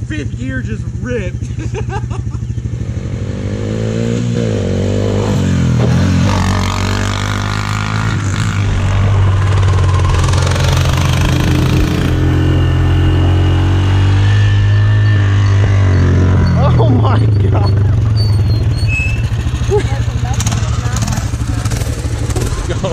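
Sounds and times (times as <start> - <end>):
atv engine running: 0.0 - 22.9.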